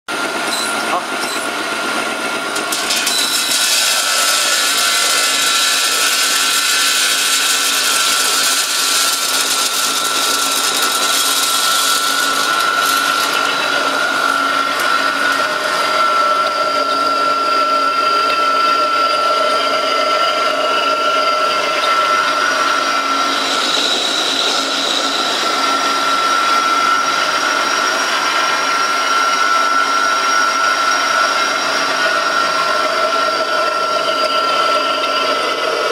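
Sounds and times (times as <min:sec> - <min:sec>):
grinder motor drone with whine: 0:00.1 - 0:35.9.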